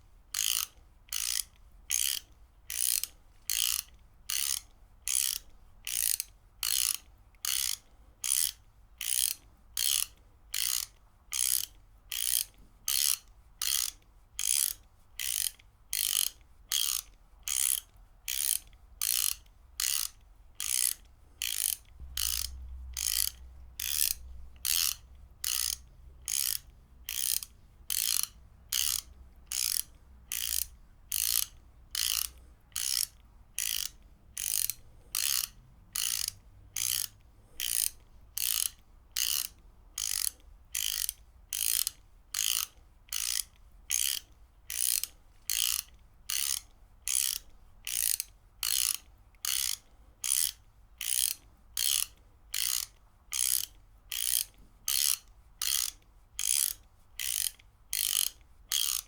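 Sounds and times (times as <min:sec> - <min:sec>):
ratchet wrench clicking: 0:00.3 - 0:59.0.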